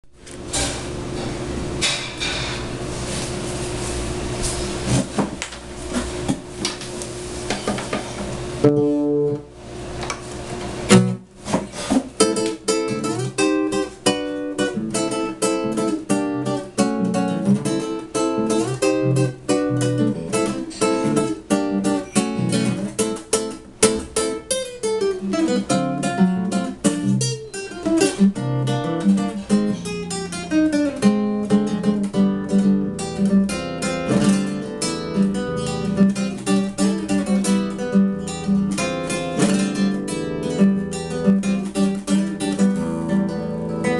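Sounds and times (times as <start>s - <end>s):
acoustic guitar music: 0.1s - 43.9s.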